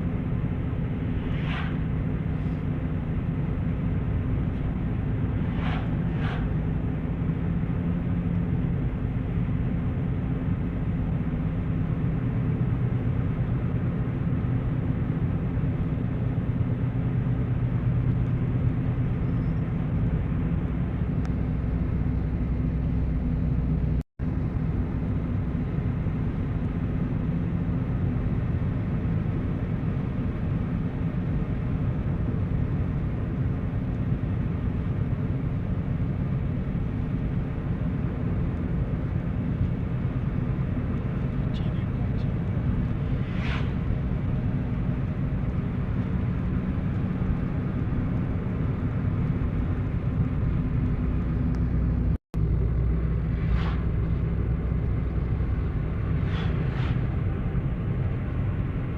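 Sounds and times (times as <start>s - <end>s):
road noise: 0.0s - 58.9s
vehicle engine rumble: 0.0s - 58.9s.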